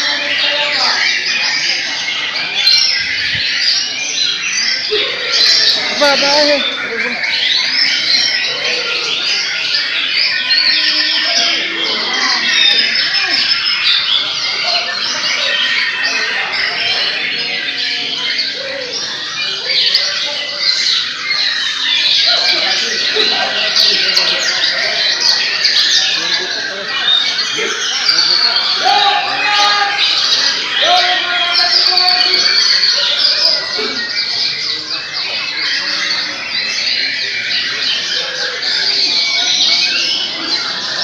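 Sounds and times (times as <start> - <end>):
songbirds singing whistled phrases: 0.0 - 41.0.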